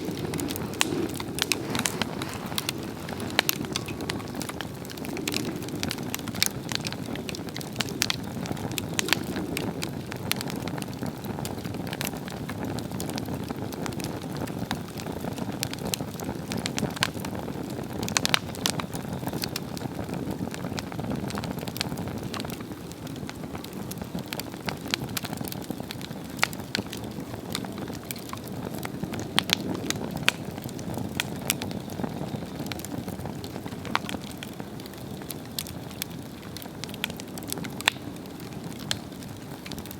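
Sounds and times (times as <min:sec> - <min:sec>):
fire burning with rushing flame: 0:00.0 - 0:39.9
wood crackling and popping: 0:00.0 - 0:39.9.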